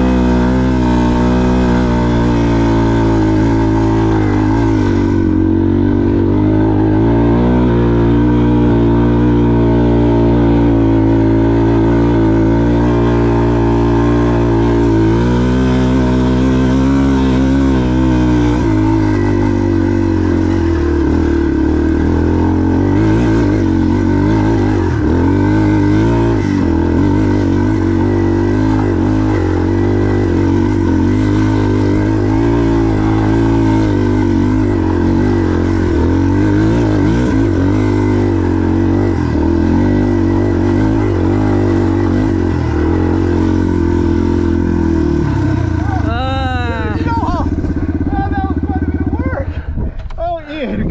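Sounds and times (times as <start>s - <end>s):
dirt bike engine under load: 0.0s - 46.1s, 46.8s - 50.9s.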